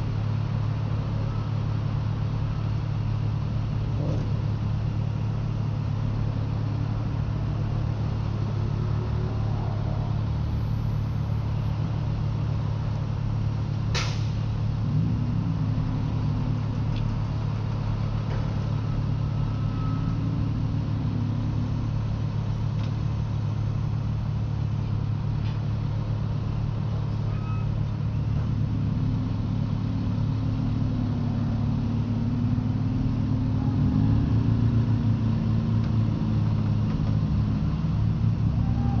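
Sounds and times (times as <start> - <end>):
vehicle engines idling: 0.0 - 39.0.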